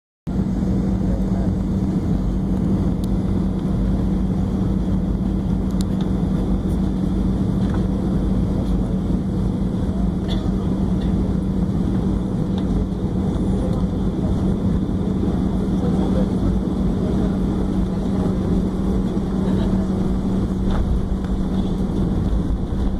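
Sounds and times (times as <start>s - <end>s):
airplane cabin noise: 0.3s - 22.9s
constant low hum: 0.3s - 22.9s.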